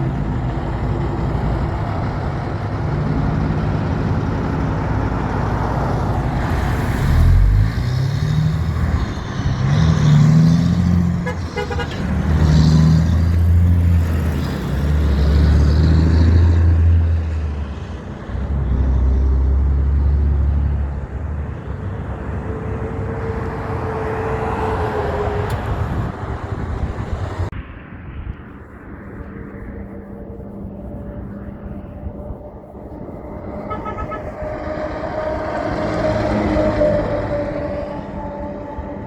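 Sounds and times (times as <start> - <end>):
heavy trucks driving past: 0.0 - 28.2, 28.9 - 39.0.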